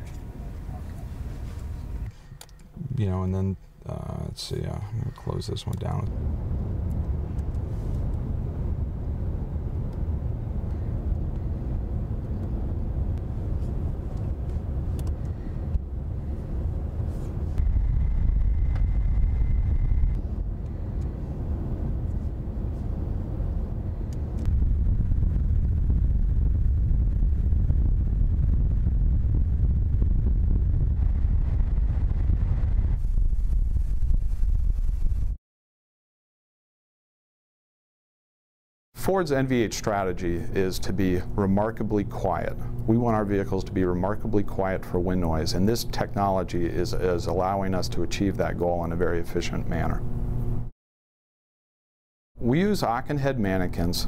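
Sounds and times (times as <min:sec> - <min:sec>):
wind tunnel airflow rumble: 0:00.0 - 0:35.4, 0:39.0 - 0:50.7.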